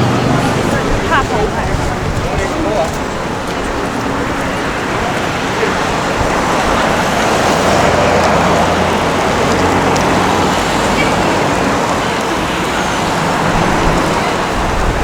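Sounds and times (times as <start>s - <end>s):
vehicle passing close by: 0.0s - 15.0s.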